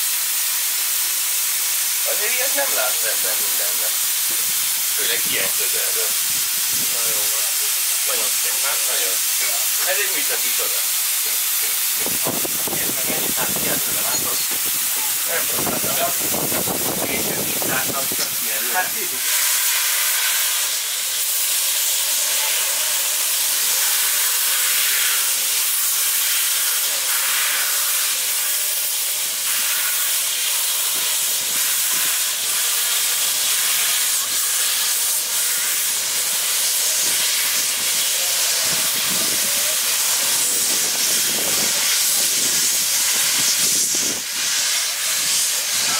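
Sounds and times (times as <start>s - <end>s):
steam hissing from locomotive: 0.0s - 45.9s.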